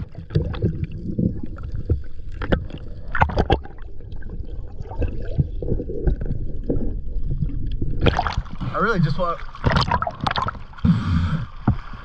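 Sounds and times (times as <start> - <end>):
underwater gurgling bubbles: 0.0 - 12.0.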